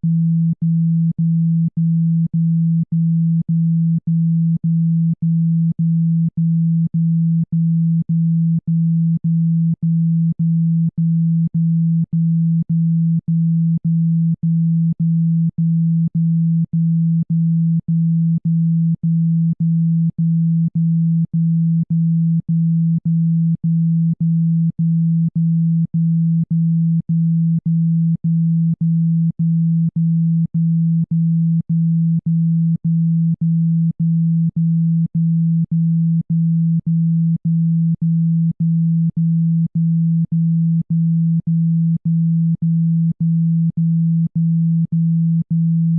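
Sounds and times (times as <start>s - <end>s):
pulsing low electronic hum: 0.0s - 45.9s.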